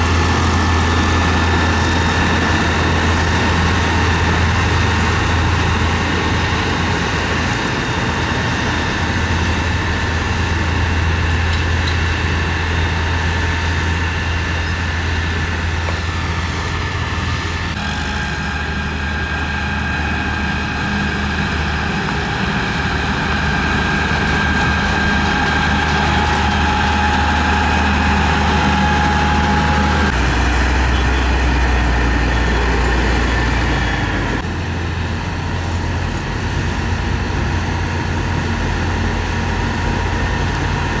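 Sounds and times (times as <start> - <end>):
diesel construction machine engine: 0.0 - 41.0.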